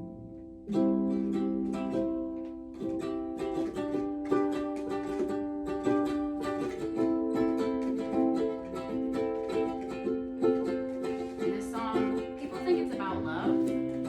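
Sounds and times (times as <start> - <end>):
small stringed instrument strumming: 0.0 - 14.0.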